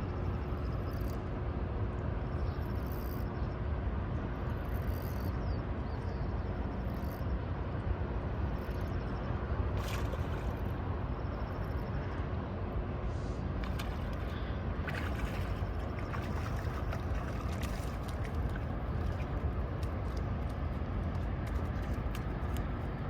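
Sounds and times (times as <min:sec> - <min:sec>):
faint constant hum: 0:00.0 - 0:23.0
low rumbling outdoor noise: 0:00.0 - 0:23.0.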